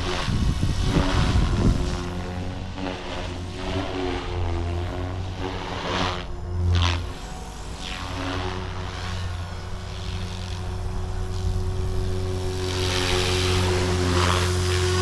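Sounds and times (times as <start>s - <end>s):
rc helicopter motor hum: 0.0s - 15.0s.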